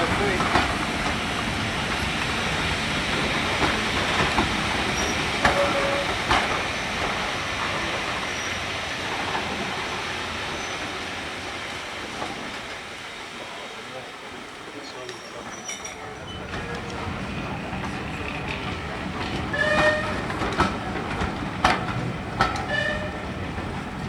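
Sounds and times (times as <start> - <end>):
wheels clicking over rail joints: 0.0 - 13.0, 14.5 - 24.0
steam train rumbling on track: 0.0 - 24.0.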